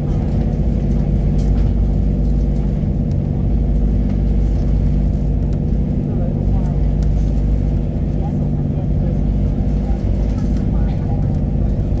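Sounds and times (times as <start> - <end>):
boat engine drone: 0.0 - 12.0
water churning along hull: 0.0 - 12.0.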